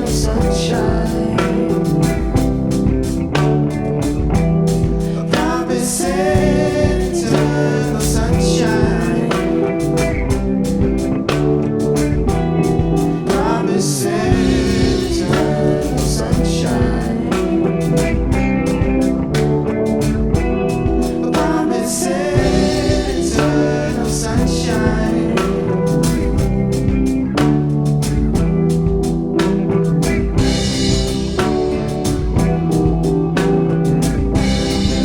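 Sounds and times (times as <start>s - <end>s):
drum beat: 0.0s - 21.7s, 22.4s - 35.0s
bending lead melody: 0.0s - 35.0s
live band playing: 0.0s - 35.0s.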